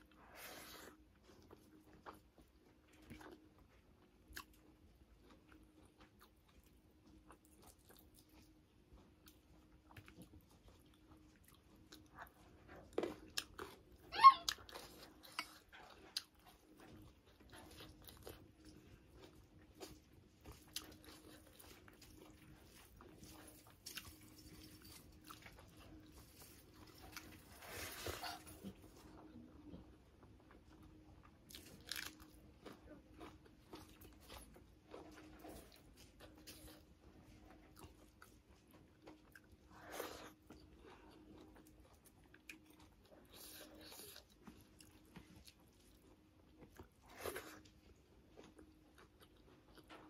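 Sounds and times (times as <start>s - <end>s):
person chewing with crunches: 0.0s - 50.0s.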